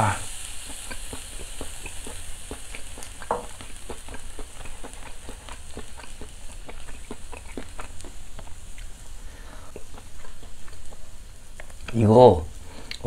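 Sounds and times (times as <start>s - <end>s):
crackles and pops: 0.0s - 13.0s
meat sizzling on charcoal grill: 0.0s - 13.0s.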